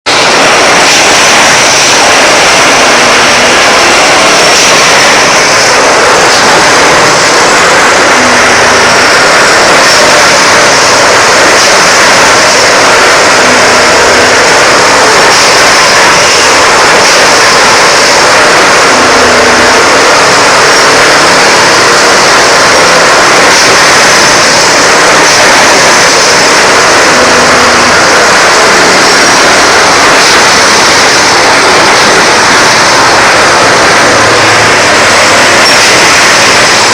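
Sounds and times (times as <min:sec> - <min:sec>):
train running: 0:00.0 - 0:36.9.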